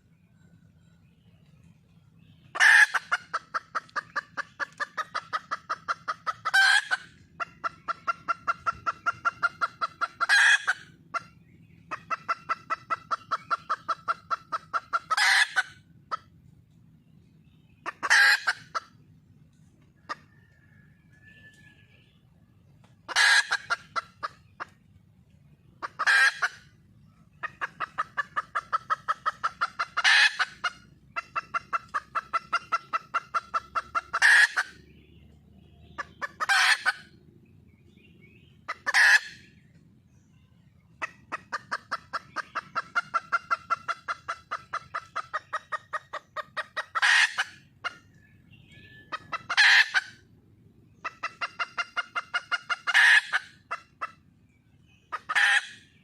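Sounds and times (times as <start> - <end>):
hen clucking: 1.4 - 56.0.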